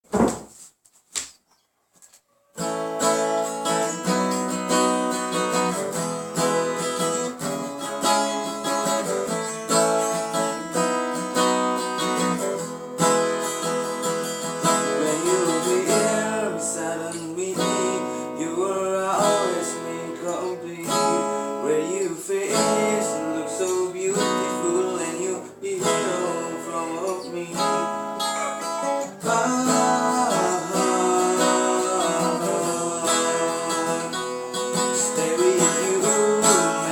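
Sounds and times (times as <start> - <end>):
picked guitar melody: 2.5 - 36.9
acoustic guitar strumming chords: 2.6 - 36.9.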